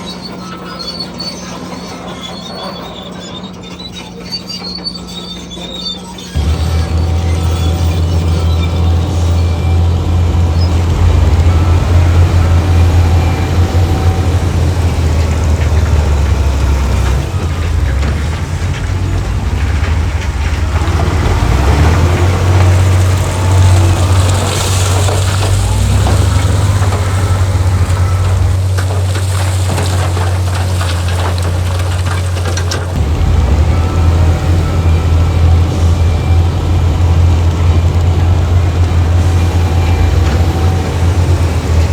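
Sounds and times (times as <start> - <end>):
crackling and rattling: 0.0 - 41.9
heavy diesel engine droning: 0.0 - 41.9.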